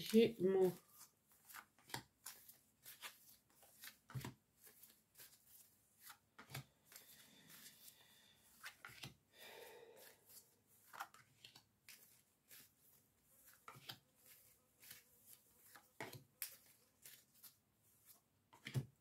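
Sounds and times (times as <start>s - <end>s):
cards sliding rustle: 0.8s - 9.2s, 10.0s - 18.8s.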